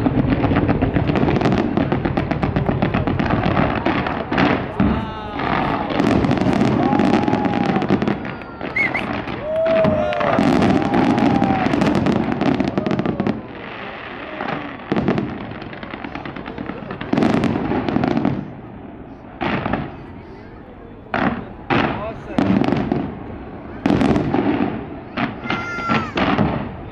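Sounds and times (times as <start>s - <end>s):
fireworks whistling: 0.0s - 18.6s, 19.2s - 26.9s
fireworks crackling and popping: 0.0s - 26.9s.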